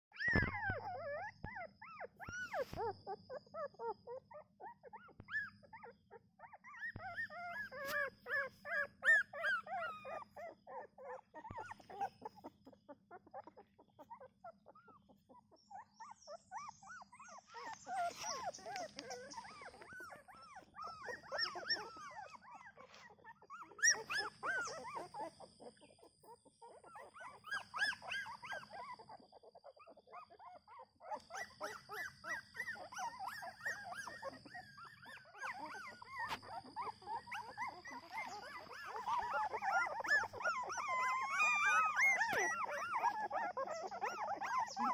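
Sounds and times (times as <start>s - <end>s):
puppies whimpering and squealing: 0.0s - 44.9s.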